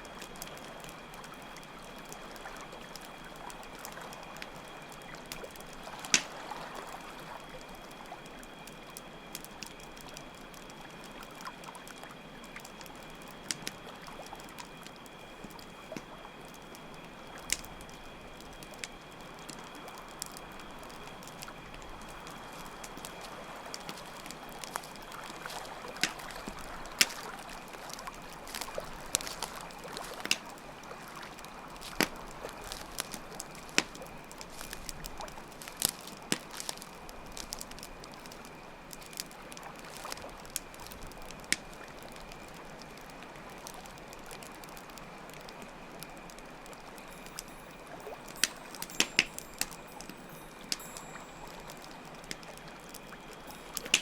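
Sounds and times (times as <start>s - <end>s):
crickets chirping: 0.0s - 43.2s, 45.6s - 54.0s
campfire crackling and popping: 0.0s - 54.0s.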